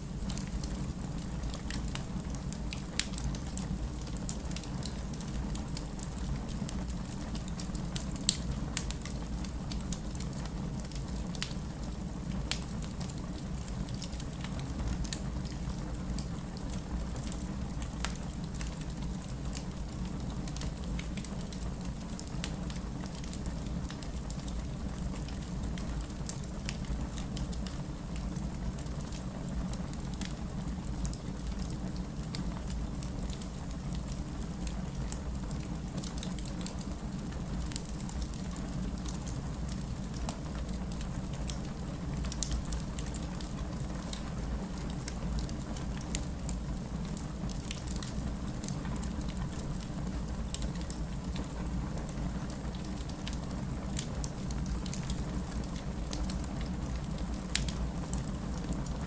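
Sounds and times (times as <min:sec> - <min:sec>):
low rumble of flame: 0:00.0 - 0:59.0
logs crackling and popping: 0:00.2 - 0:59.0.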